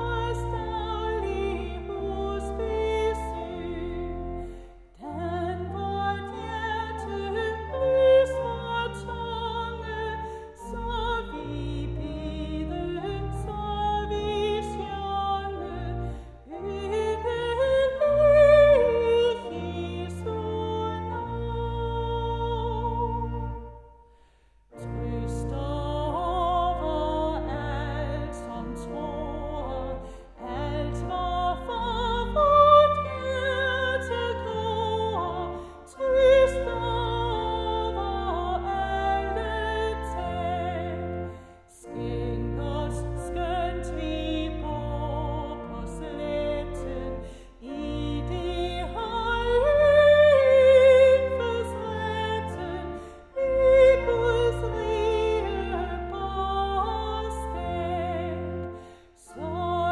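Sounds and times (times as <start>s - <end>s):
woman singing a hymn: 0.0s - 23.8s, 24.8s - 59.9s
pipe organ chords: 0.0s - 59.9s.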